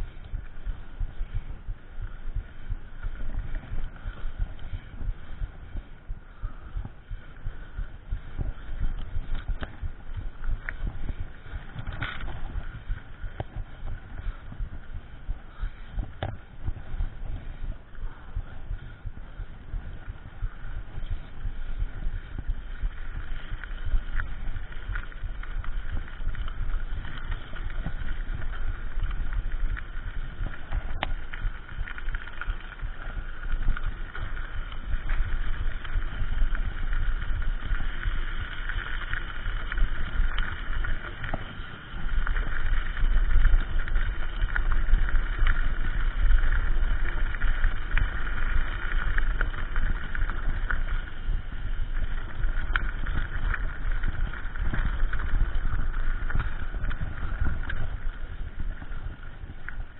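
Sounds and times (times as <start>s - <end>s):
bike rattling and clicking: 0.0s - 59.9s
wind on microphone: 0.0s - 59.9s.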